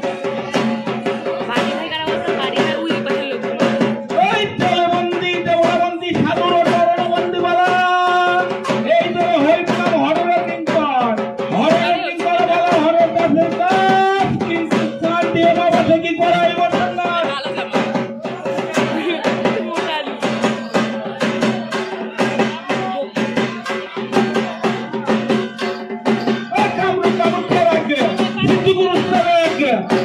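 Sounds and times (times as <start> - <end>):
fast dense drumming: 0.0 - 30.0.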